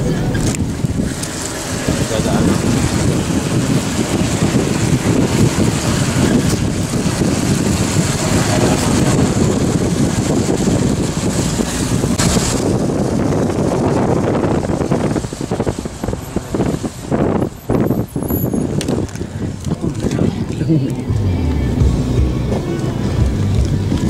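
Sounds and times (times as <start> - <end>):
road rumble: 0.0 - 24.0
vehicle engine running: 0.0 - 24.0
wind on microphone: 0.0 - 24.0.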